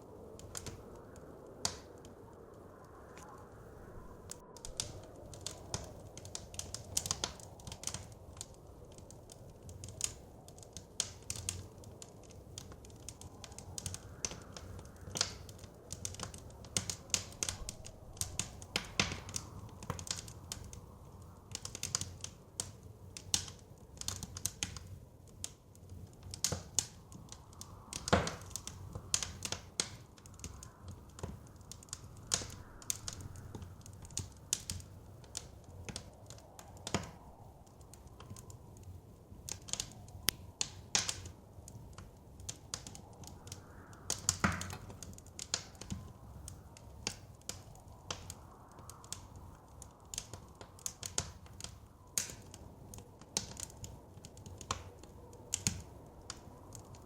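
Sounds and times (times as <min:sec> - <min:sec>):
soft low wind: 0:00.0 - 0:57.0
wood fire crackling: 0:00.0 - 0:57.0.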